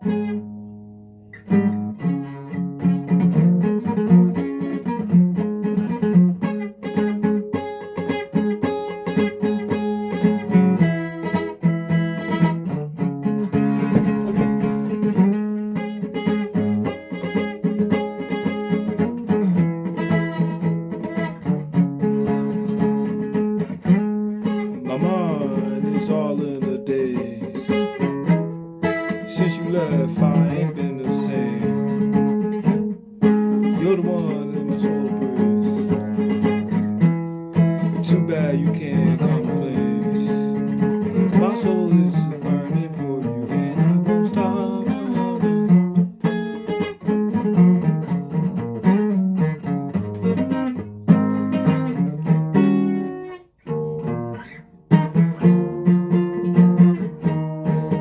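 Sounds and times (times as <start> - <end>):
guitar strummed and picked: 0.0 - 58.0.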